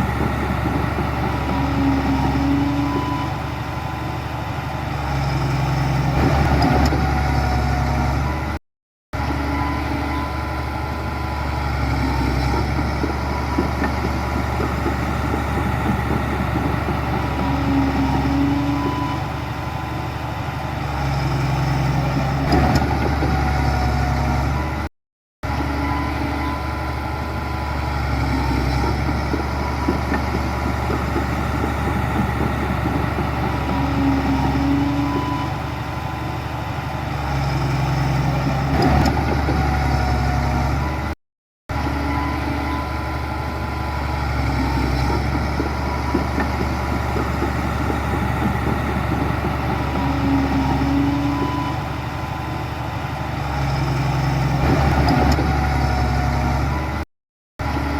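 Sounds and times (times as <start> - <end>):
heavy diesel machinery engine: 0.0 - 8.6, 9.2 - 57.9.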